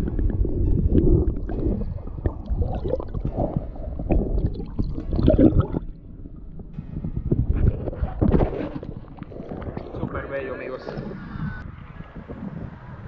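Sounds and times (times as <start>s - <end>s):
underwater gurgling and sloshing: 0.0s - 12.5s.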